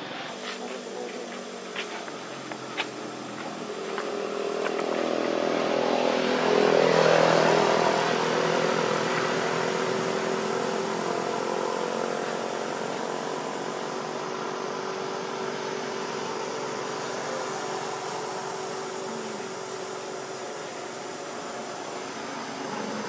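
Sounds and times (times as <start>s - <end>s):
vehicle engine passing by: 3.2s - 23.0s.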